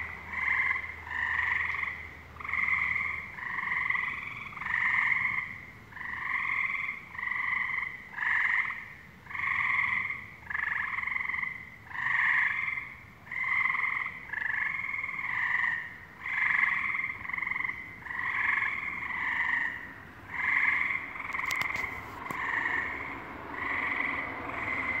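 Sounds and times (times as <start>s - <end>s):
frogs calling: 0.0s - 25.0s.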